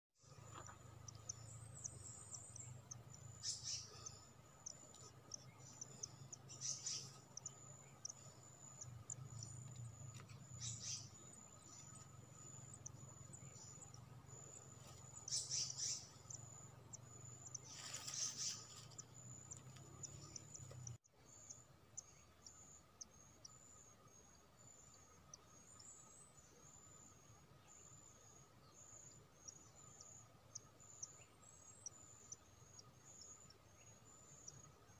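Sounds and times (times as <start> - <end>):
bird chirps: 0.2 - 34.9
insect drone: 0.2 - 34.9.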